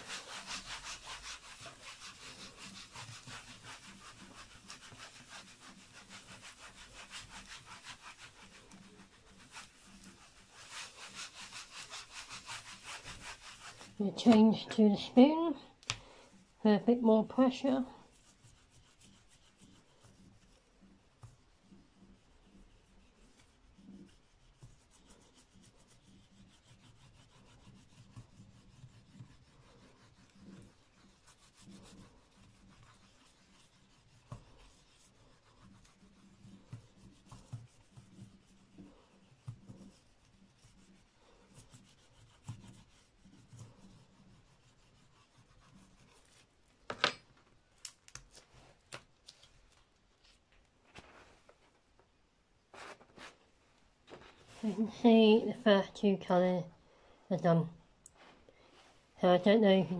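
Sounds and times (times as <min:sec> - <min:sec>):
spoon rubbing over paper: 0:00.0 - 0:15.7, 0:16.3 - 0:46.9, 0:52.7 - 0:56.5.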